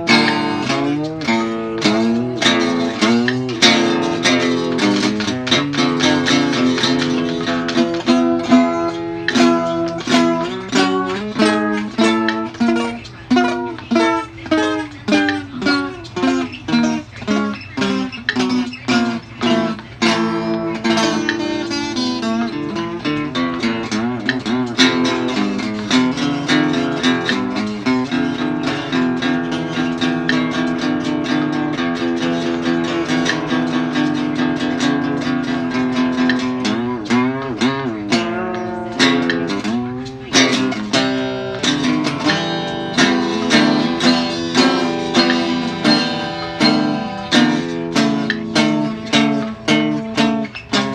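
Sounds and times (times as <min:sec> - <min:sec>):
fast strummed guitar chords: 0:00.0 - 0:50.9
guitar plucked notes: 0:00.0 - 0:50.9.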